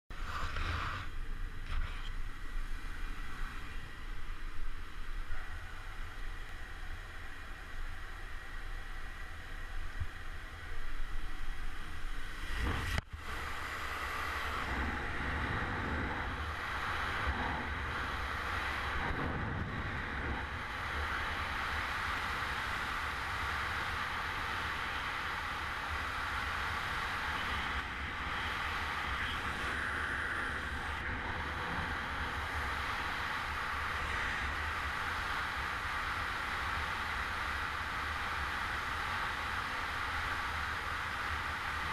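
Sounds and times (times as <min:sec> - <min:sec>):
freefall airflow buffeting microphone: 0:00.1 - 0:41.9
plane engine: 0:00.1 - 0:41.9.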